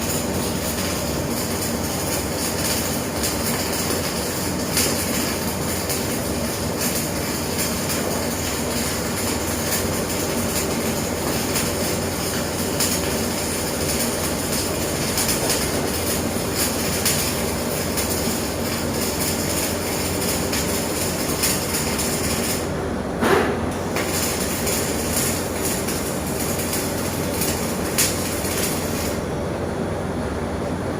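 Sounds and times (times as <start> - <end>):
welding arc crackling and hissing: 0.0 - 29.6.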